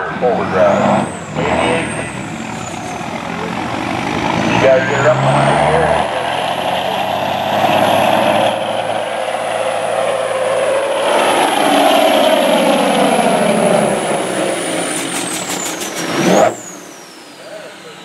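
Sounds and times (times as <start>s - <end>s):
diesel truck engine at full throttle: 0.0s - 18.0s.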